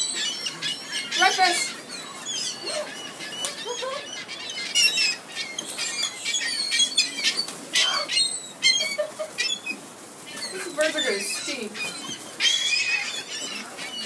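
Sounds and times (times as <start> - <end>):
seagulls calling: 0.0 - 14.0.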